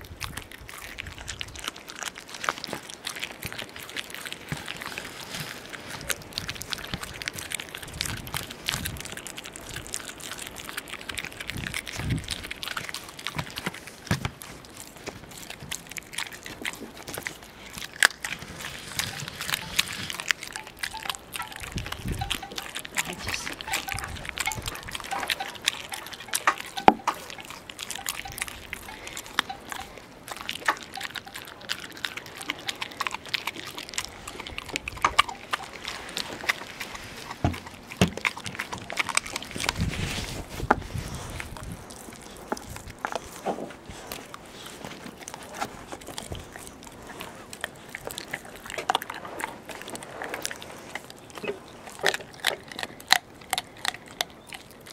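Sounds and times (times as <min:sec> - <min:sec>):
puppy chewing and slurping: 0:00.0 - 0:54.9
teeth cracking on bone: 0:00.0 - 0:54.9.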